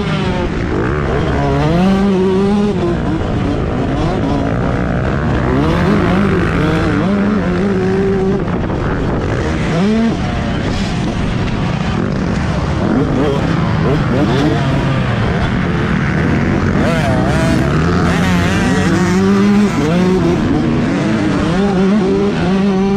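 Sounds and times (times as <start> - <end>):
motocross bike engine revving: 0.0 - 22.9
wind: 0.0 - 22.9.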